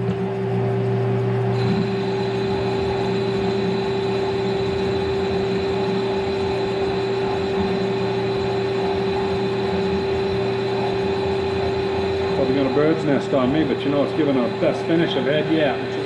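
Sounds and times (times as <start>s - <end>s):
metal lathe humming: 1.4s - 16.0s
thin high steady tone: 1.6s - 16.0s.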